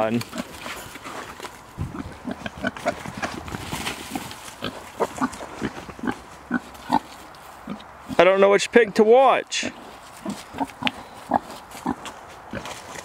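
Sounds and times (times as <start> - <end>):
pigs grunting: 0.0 - 8.3, 9.5 - 13.0.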